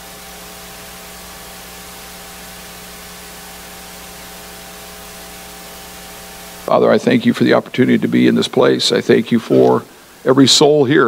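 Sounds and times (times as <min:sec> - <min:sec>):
low electrical hum: 0:00.0 - 0:11.0
steady hiss: 0:00.0 - 0:11.0.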